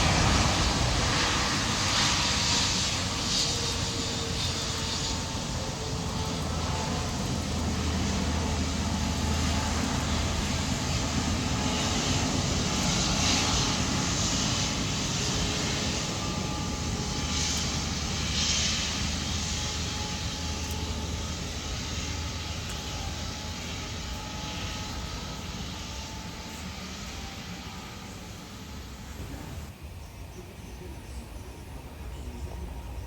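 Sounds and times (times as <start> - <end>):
airliner engines rumbling: 0.0 - 33.0.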